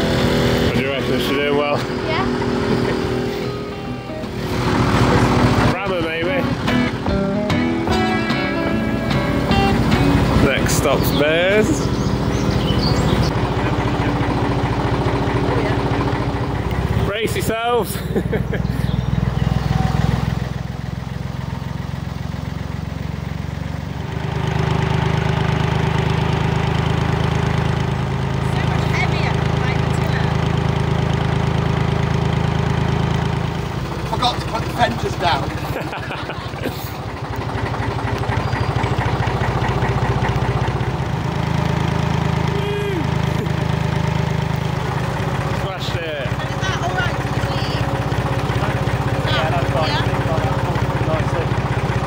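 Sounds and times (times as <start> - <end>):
boat diesel engine running: 0.0 - 52.0.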